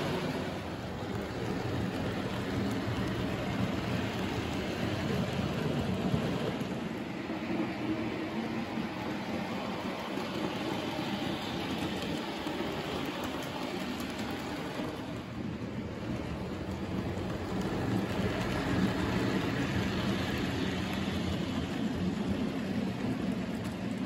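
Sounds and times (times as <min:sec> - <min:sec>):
model train wheels rattling on track: 0:00.0 - 0:24.0.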